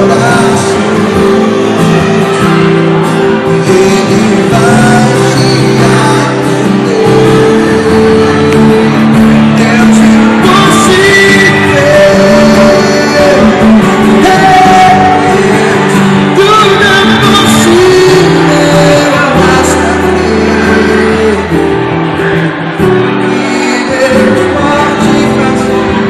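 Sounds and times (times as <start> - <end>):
acoustic guitar: 0.0 - 26.0
electric bass: 0.0 - 26.0
keyboard playing: 0.0 - 26.0
person singing: 0.0 - 26.0.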